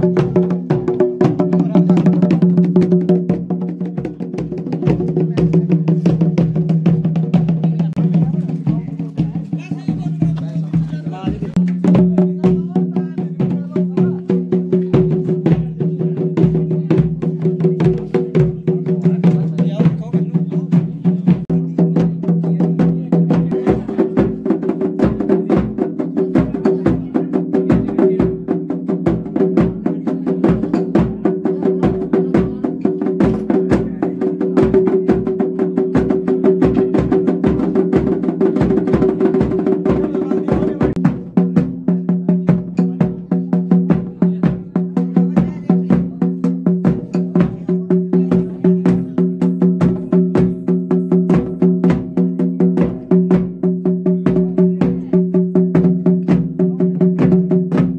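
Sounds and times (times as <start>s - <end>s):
drums beating quick rhythm: 0.0s - 57.9s.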